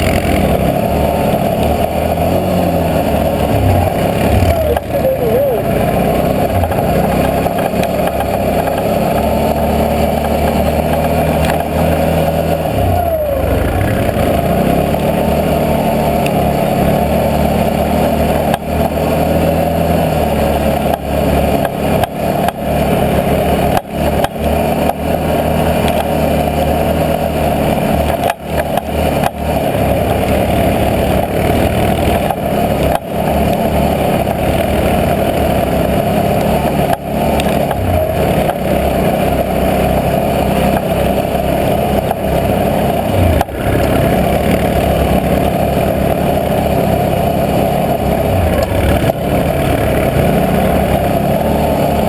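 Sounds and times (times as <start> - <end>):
atv engine running under load: 0.0 - 52.0.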